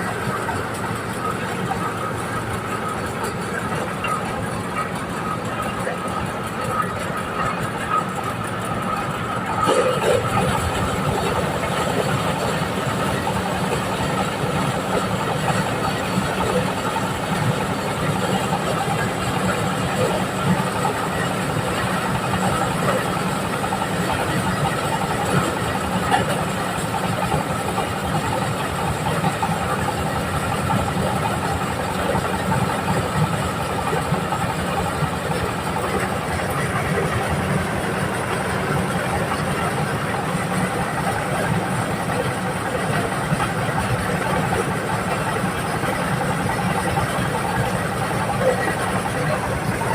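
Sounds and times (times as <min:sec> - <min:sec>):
corn sheller machine running: 0:00.0 - 0:49.9.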